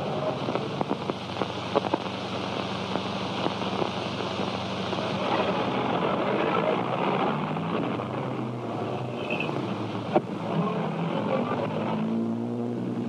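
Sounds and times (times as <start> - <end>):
car engine running: 0.0 - 13.0
film soundtrack hiss: 0.0 - 13.0.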